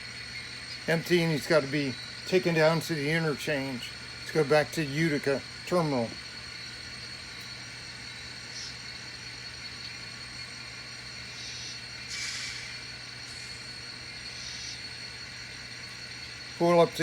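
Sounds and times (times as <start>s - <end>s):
low hum with high tone: 0.0s - 17.0s.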